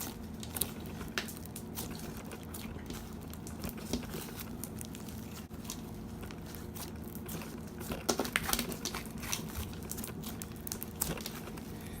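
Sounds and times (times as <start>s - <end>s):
slime squished by hand: 0.0s - 12.0s.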